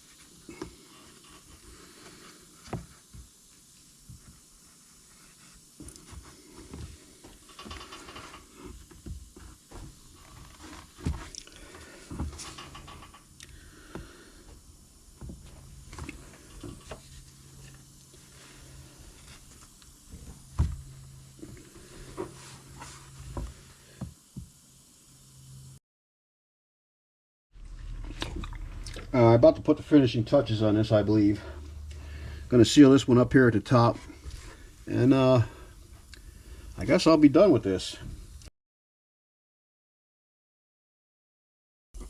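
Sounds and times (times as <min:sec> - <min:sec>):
faint hiss: 0:00.0 - 0:25.8, 0:27.7 - 0:38.5
low steady hum: 0:00.0 - 0:25.8, 0:27.6 - 0:38.5.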